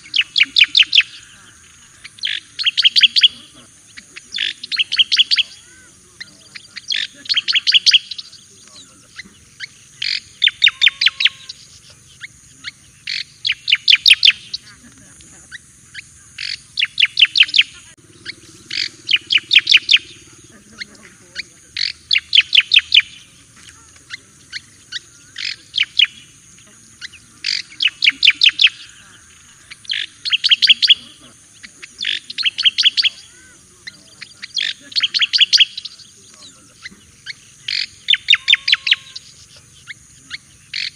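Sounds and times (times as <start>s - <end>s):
bird singing sharp notes: 0.0s - 40.9s.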